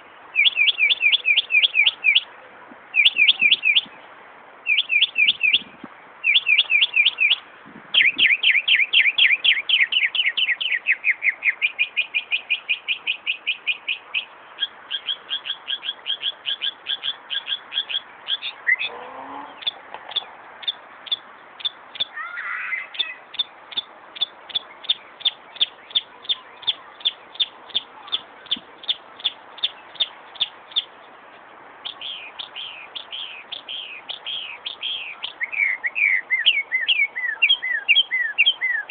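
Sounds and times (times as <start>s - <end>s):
mockingbird singing: 0.0s - 2.3s, 3.0s - 4.0s, 4.6s - 31.2s, 31.8s - 38.9s.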